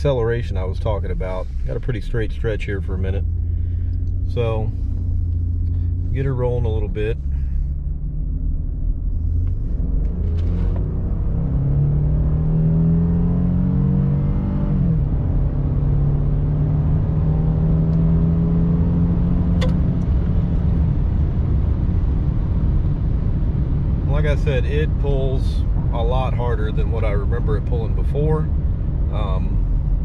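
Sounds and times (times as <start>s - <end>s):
transmission shifting up: 0.0s - 26.1s
truck engine accelerating: 0.0s - 30.0s.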